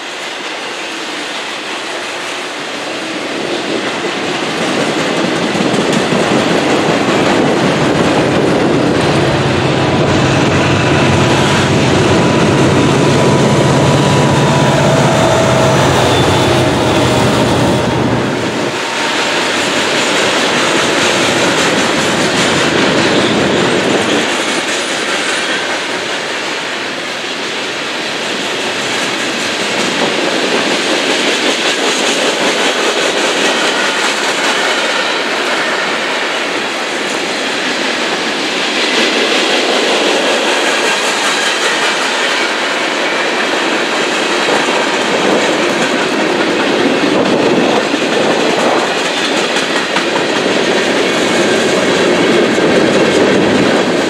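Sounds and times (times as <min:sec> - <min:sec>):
freight train wheels rattling: 0:00.0 - 0:54.0.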